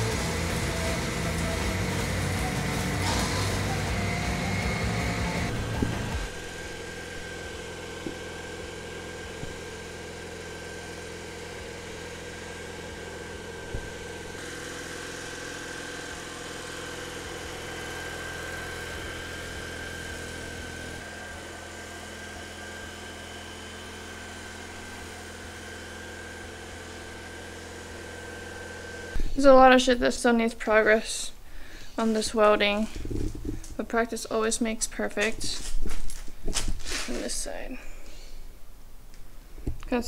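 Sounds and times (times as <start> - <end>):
engine idling hum: 0.0 - 40.0.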